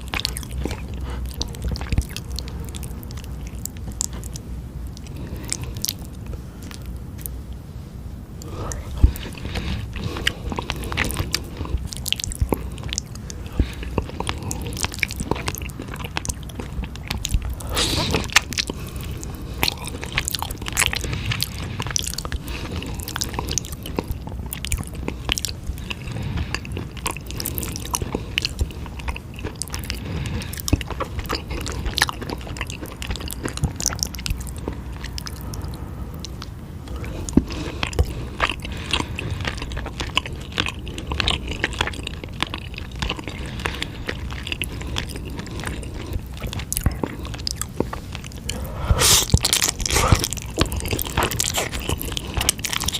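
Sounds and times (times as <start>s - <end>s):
close chewing and biting: 0.0s - 7.4s, 8.4s - 52.9s.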